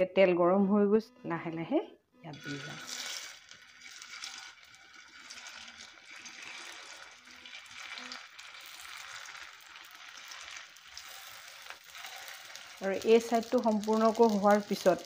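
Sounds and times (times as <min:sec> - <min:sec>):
patties sizzling in hot oil: 0:02.3 - 0:15.0.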